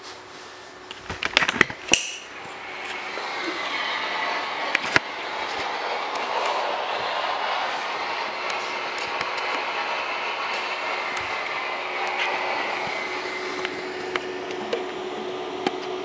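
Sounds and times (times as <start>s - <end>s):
projector cooling fan: 0.0s - 16.0s.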